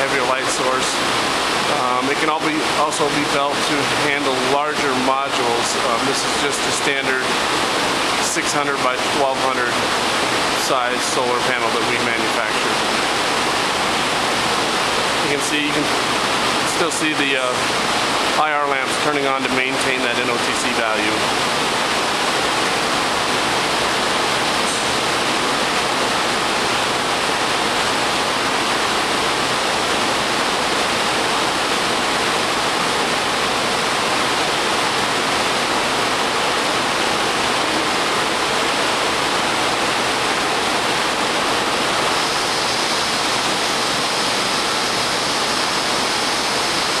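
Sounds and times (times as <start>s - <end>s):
faint high whine: 0.0s - 47.0s
steady rushing noise: 0.0s - 47.0s.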